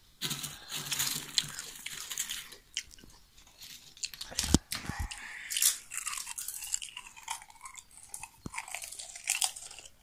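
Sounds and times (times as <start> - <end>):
potato chips crunching: 0.2 - 10.0.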